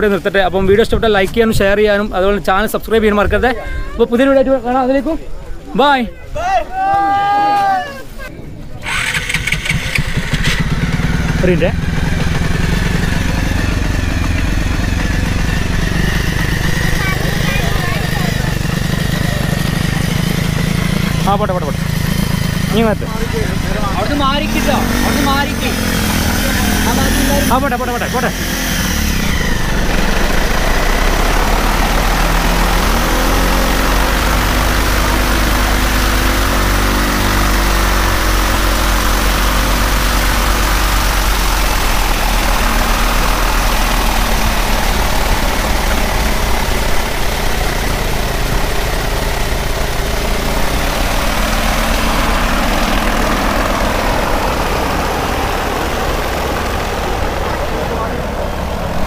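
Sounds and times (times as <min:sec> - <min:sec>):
engine driving a propeller: 0:08.8 - 0:59.0.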